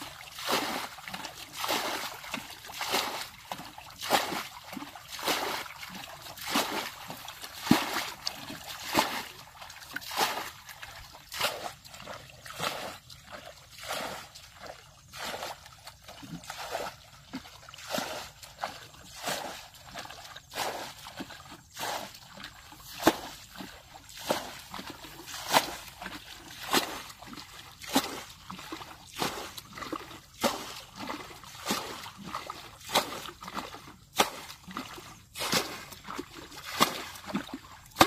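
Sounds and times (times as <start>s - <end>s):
water splashing and sloshing: 0.0s - 38.0s.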